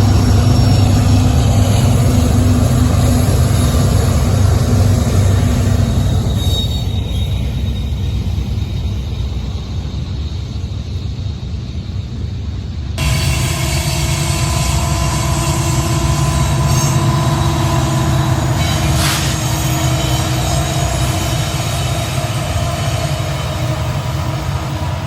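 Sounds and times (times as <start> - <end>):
freight train rumbling past: 0.0 - 25.0
steel wheels squealing on rails: 0.0 - 25.0.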